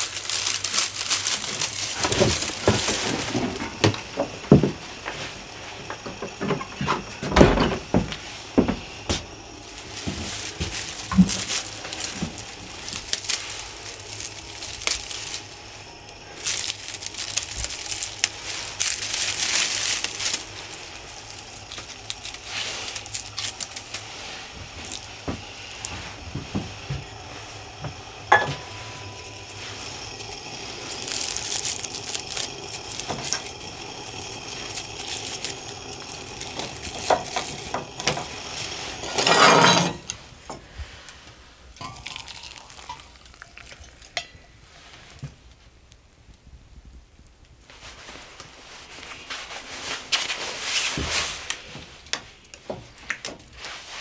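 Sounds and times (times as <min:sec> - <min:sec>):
hiss: 0:00.0 - 0:45.6, 0:47.6 - 0:54.0.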